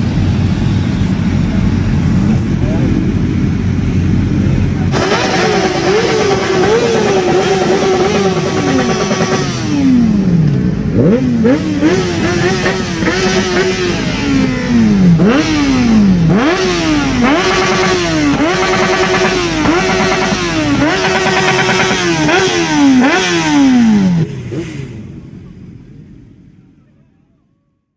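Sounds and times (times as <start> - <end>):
motorcycle engine revving: 0.0 - 26.2
engines running: 0.0 - 27.3.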